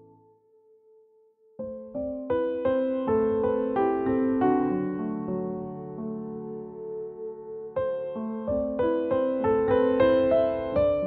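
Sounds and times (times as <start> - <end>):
piano-like keyboard notes: 1.6 - 11.0.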